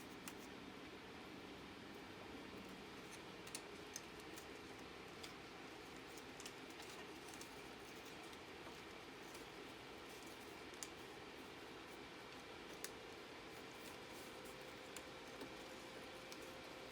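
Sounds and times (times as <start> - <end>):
faint clicks and taps: 2.2 - 16.9.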